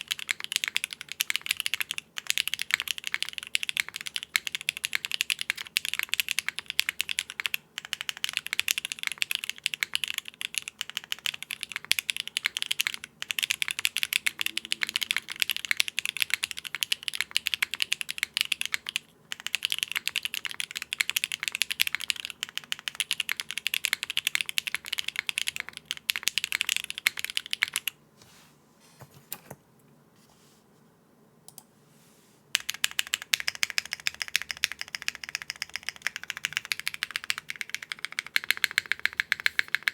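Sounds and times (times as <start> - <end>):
fast typing on mechanical keyboard: 0.0 - 28.0, 32.6 - 39.9.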